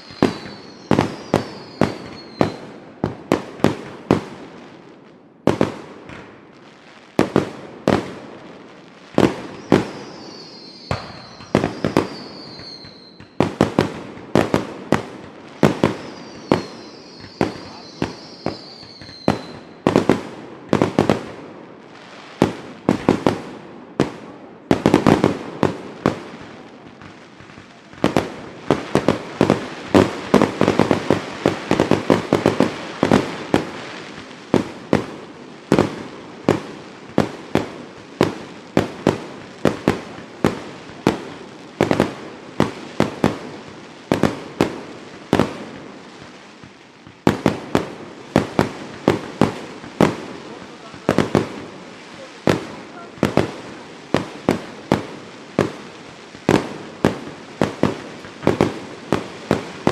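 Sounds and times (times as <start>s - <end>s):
fireworks bangs with echo: 0.0s - 59.9s.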